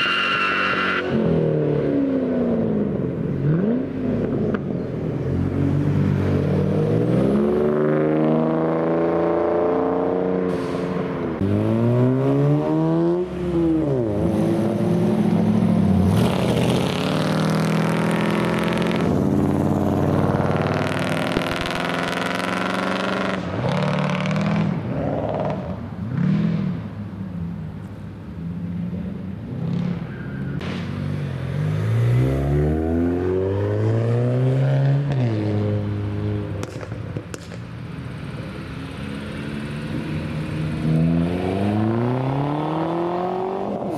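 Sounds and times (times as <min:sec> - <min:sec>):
cars accelerating with engines revving: 0:00.0 - 0:43.9
loud car passing: 0:05.2 - 0:27.3, 0:29.4 - 0:43.9.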